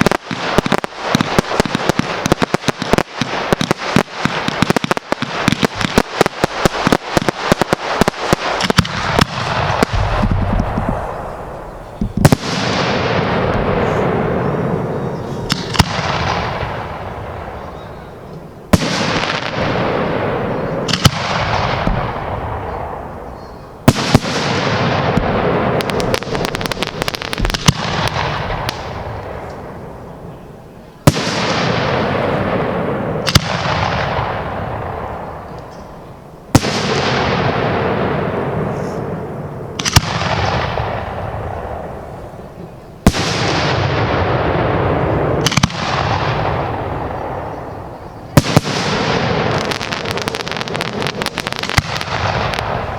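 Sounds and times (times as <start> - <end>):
fireworks hissing and crackling: 0.0 - 17.7, 23.8 - 52.9
fireworks bangs: 0.0 - 52.9.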